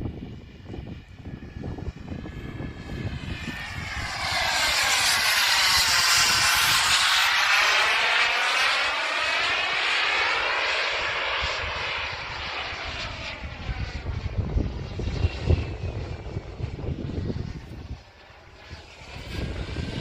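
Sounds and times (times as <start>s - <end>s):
wind buffeting microphone: 0.0s - 8.9s, 9.5s - 20.0s
model jet turbine rushing past: 0.0s - 20.0s.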